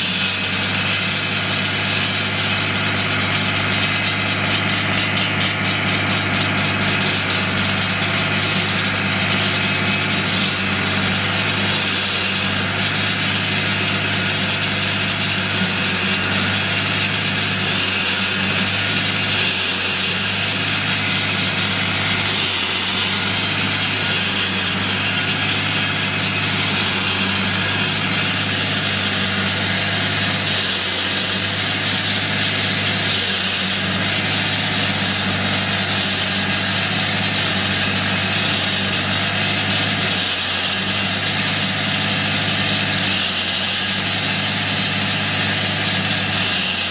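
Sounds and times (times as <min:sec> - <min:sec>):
concrete saw diesel engine running: 0:00.0 - 0:46.9.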